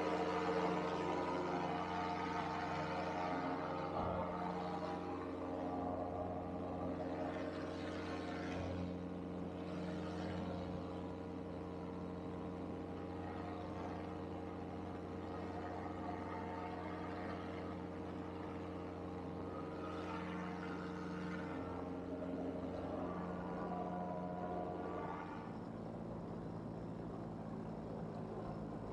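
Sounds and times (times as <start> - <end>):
paramotor engine and propeller: 0.0 - 28.9.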